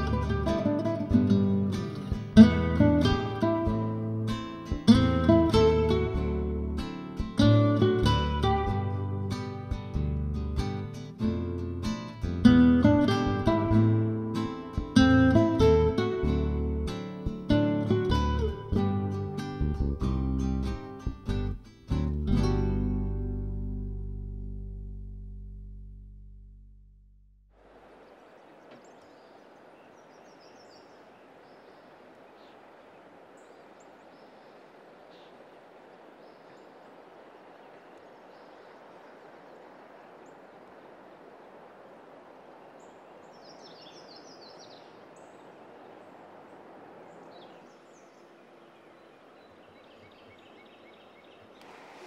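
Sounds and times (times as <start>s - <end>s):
steady background hiss: 0.0s - 19.6s, 27.5s - 52.0s
songbirds chirping: 0.0s - 23.9s, 27.6s - 52.0s.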